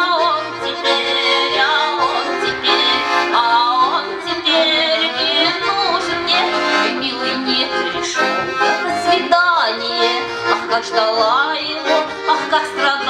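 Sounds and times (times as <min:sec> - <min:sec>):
accordion folk song: 0:00.0 - 0:13.0
woman singing: 0:00.0 - 0:13.0.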